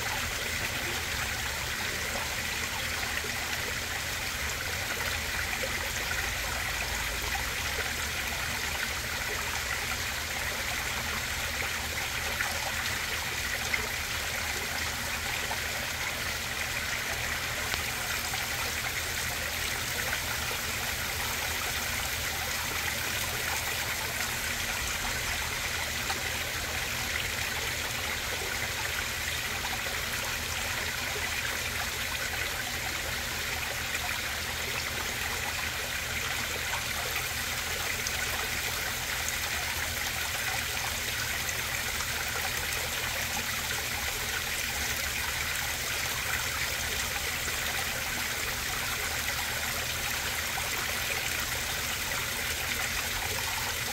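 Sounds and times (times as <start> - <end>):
water trickling into pond: 0.0 - 53.9.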